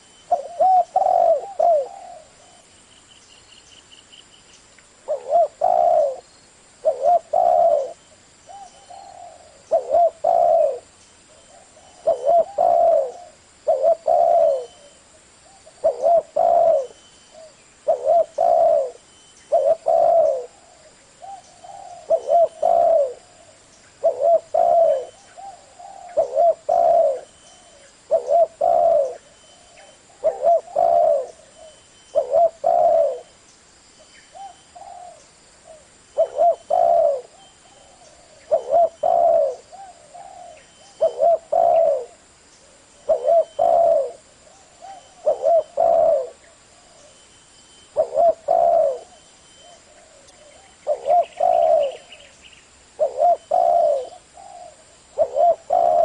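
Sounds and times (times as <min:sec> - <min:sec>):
dove cooing: 0:00.0 - 0:02.7, 0:05.0 - 0:33.4, 0:34.3 - 0:56.0.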